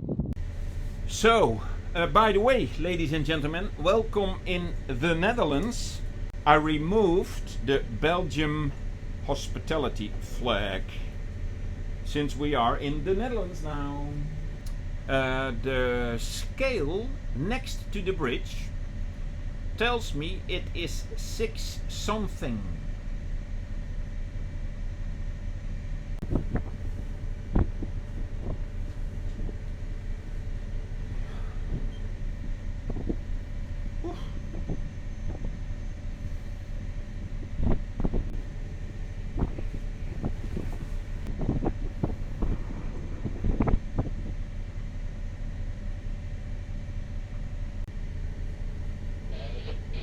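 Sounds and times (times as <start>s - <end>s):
boat engine humming: 0.0s - 50.0s.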